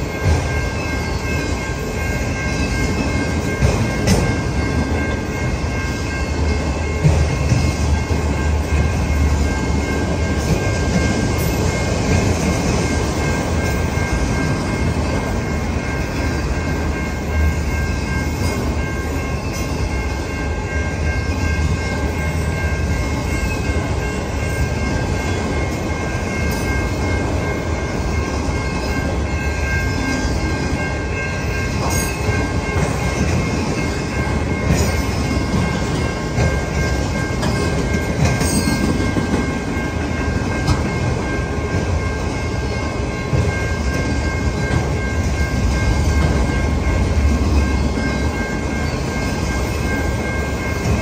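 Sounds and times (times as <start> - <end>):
freight train wheels clattering: 0.0 - 51.0
high-pitched ringing tones: 0.0 - 51.0.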